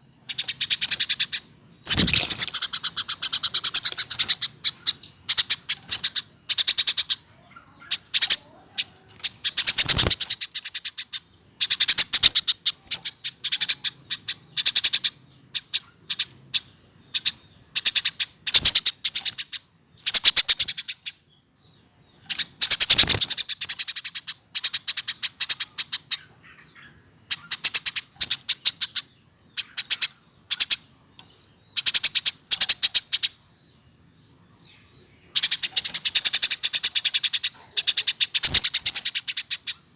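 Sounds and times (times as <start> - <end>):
sparrow chattering song: 0.0 - 39.9.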